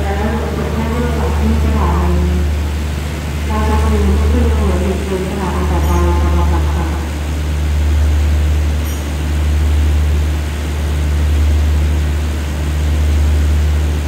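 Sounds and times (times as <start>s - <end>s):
diesel train engines idling: 0.0s - 14.0s.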